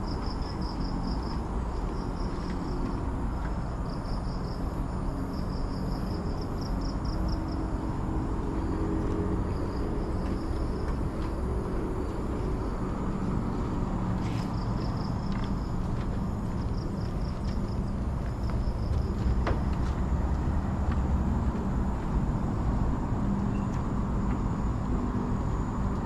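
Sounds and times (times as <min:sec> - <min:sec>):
distant road traffic rumble: 0:00.0 - 0:26.0.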